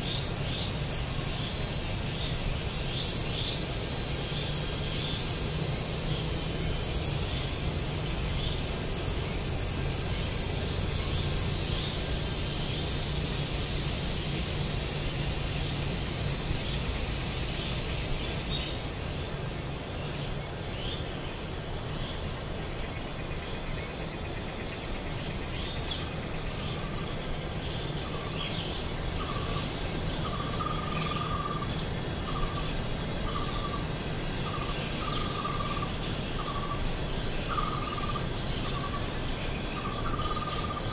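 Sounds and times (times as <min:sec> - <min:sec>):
insects trilling: 0:00.0 - 0:40.9
low background hiss: 0:00.0 - 0:40.9.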